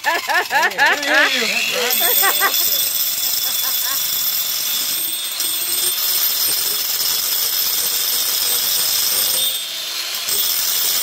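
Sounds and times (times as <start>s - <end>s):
power grinder grinding metal: 0.0s - 11.0s.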